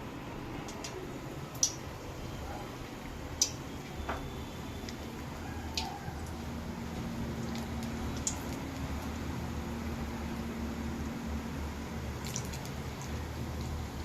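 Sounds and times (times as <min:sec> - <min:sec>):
fritters sizzling in hot oil: 0:00.0 - 0:14.0.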